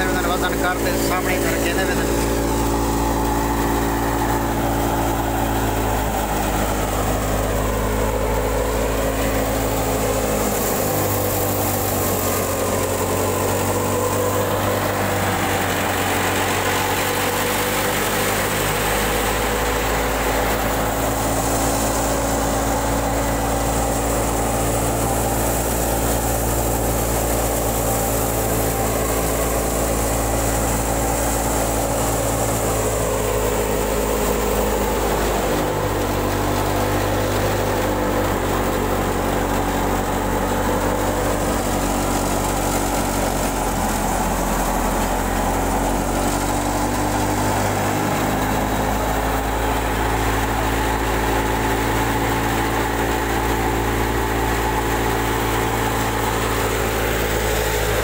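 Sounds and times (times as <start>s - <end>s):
thresher machinery drone: 0.0s - 58.0s.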